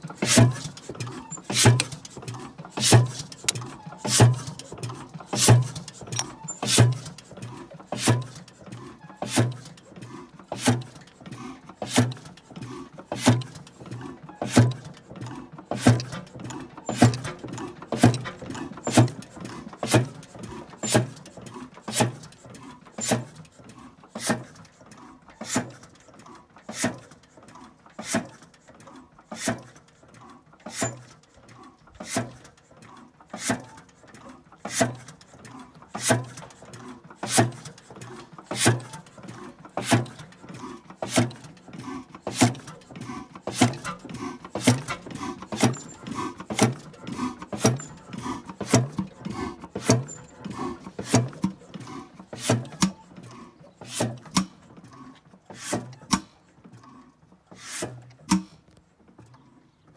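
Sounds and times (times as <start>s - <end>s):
slow engine knocking: 0.0s - 57.6s
light engine clicks: 0.1s - 59.6s.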